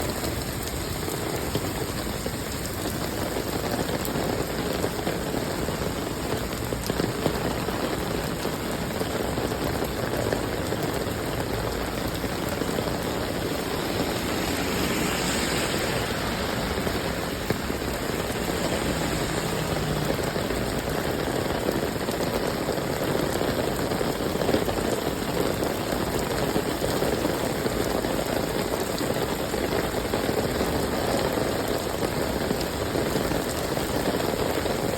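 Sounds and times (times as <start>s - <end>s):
rain pattering on surfaces: 0.0s - 34.9s.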